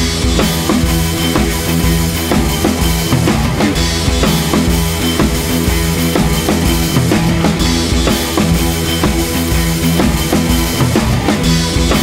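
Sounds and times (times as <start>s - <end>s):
drum kit steady beat: 0.0s - 12.0s
rock music: 0.0s - 12.0s
sustained bass notes: 0.0s - 12.0s.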